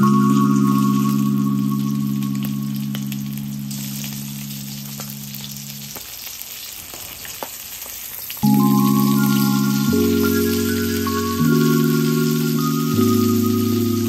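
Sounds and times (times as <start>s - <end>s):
background music chord: 0.0s - 5.9s, 8.4s - 14.0s
food sizzling in a pan: 0.0s - 14.0s.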